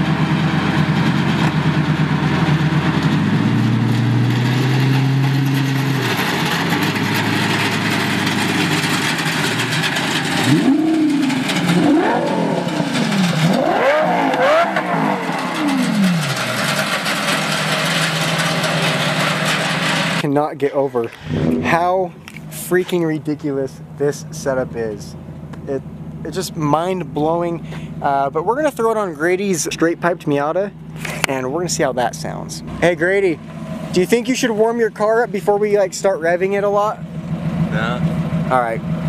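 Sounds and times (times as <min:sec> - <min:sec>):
sports car engine idling and revving: 0:00.0 - 0:39.0.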